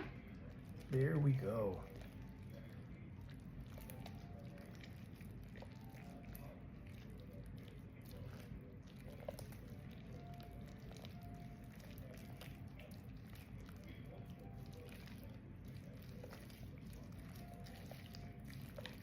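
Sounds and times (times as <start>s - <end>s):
slime squelching: 0.0s - 19.0s.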